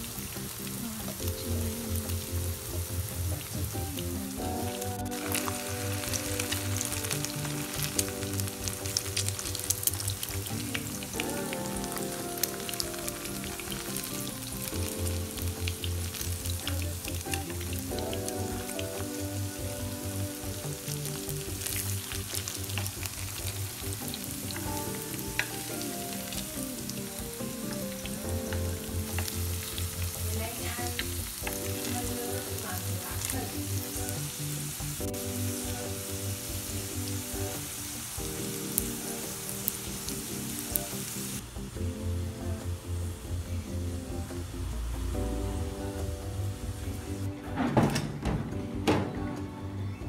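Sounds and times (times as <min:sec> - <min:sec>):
potatoes sizzling in hot oil: 0:00.0 - 0:47.3
soft background music: 0:00.0 - 0:50.0.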